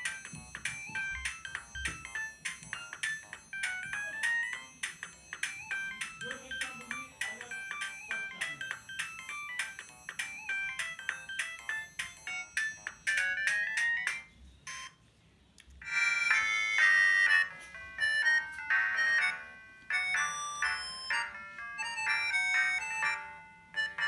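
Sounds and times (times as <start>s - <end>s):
electronic ringtone melody: 0.0s - 15.0s, 15.8s - 24.0s
louder ringtone tune: 0.0s - 15.0s, 15.8s - 24.0s.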